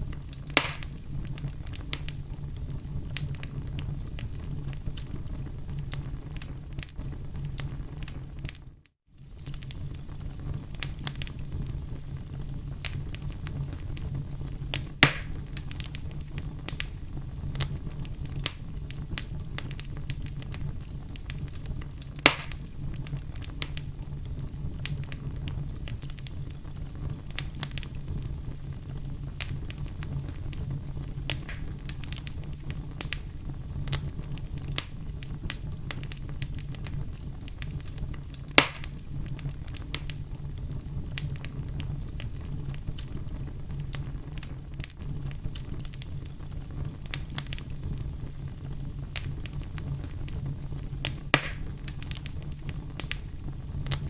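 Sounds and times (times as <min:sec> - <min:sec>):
fire crackling: 0:00.0 - 0:54.0
fire rumbling: 0:00.0 - 0:54.0
loud fire pops: 0:00.0 - 0:54.0.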